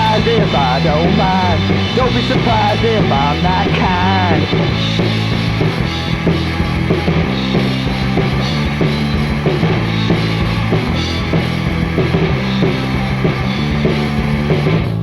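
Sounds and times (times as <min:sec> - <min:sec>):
bass guitar: 0:00.0 - 0:15.0
distorted electric guitar: 0:00.0 - 0:15.0
drum kit: 0:00.0 - 0:15.0.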